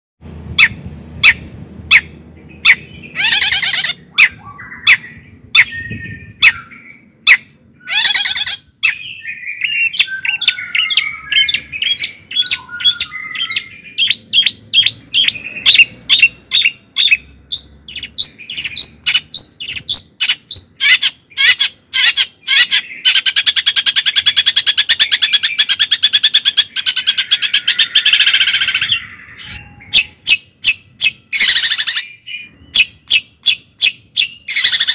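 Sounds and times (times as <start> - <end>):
bird chipping and trilling: 0.5 - 34.9.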